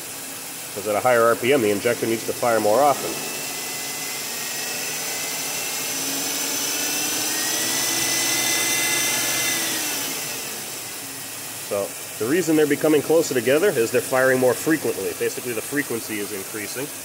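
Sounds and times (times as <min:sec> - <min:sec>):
car engine revving: 0:01.0 - 0:16.4.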